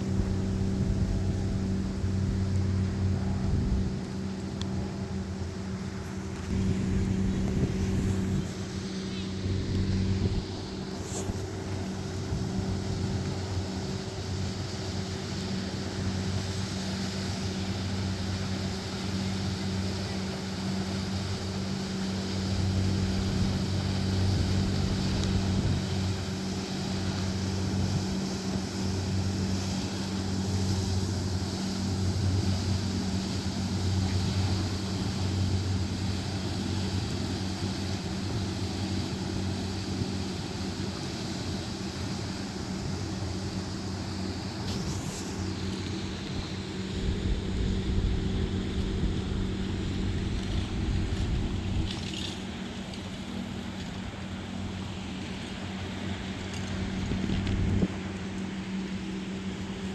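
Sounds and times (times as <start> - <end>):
low engine hum: 0.0 - 59.9.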